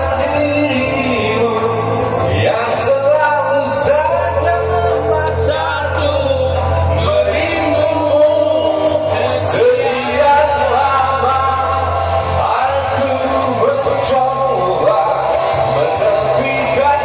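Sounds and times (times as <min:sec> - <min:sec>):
man singing into a microphone: 0:00.0 - 0:17.0
music backing track: 0:00.0 - 0:17.0.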